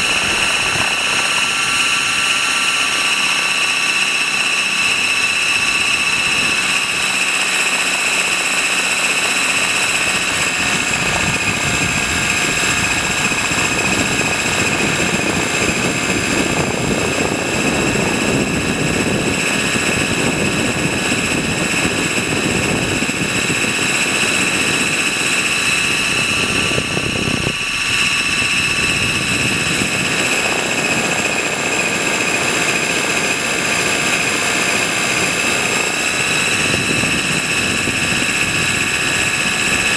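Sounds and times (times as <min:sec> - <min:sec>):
high-pitched drivetrain whine: 0:00.0 - 0:39.9
rotor wash rushing: 0:00.0 - 0:39.9.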